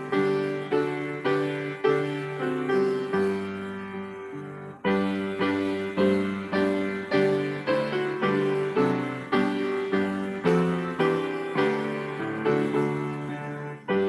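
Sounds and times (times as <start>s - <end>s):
piano block chords: 0.0s - 14.0s.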